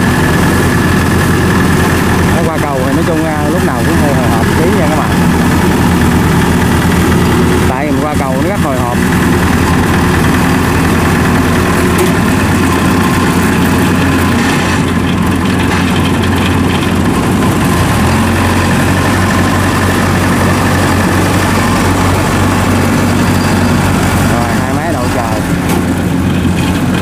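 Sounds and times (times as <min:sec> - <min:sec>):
harvester engines running: 0:00.0 - 0:27.0.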